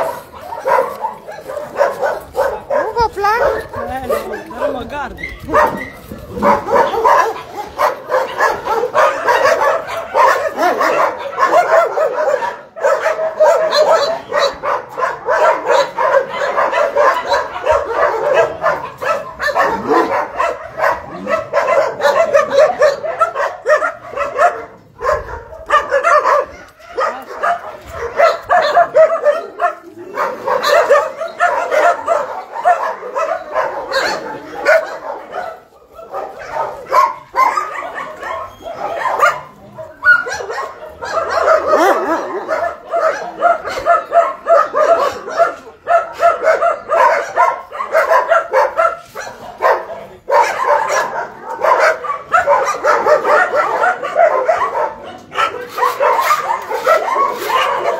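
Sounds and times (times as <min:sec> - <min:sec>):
dogs barking and yipping: 0:00.0 - 0:57.9.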